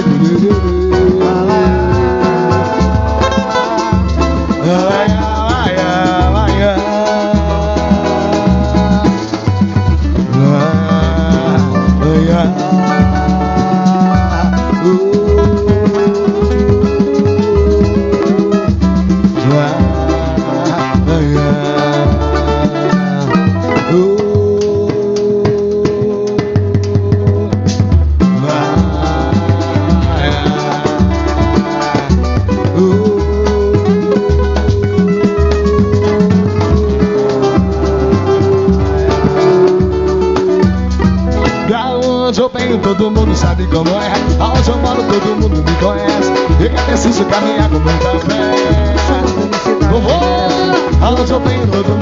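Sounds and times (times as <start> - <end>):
bass line: 0.0 - 52.0
plucked strings: 0.0 - 52.0
samba percussion: 0.0 - 52.0.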